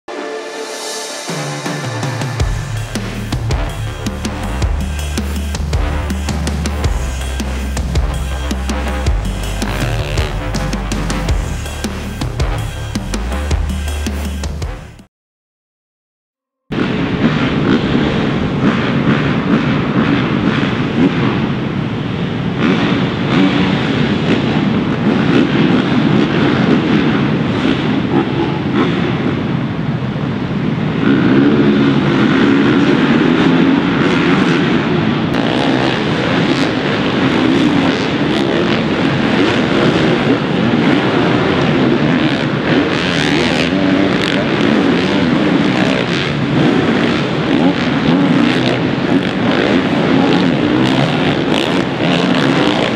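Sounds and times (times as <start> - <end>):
motocross bike engines revving: 2.2 - 15.0, 16.8 - 52.9.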